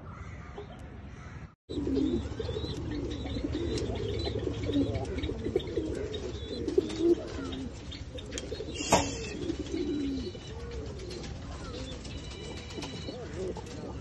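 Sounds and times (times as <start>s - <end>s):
pigeons cooing: 1.3s - 14.0s.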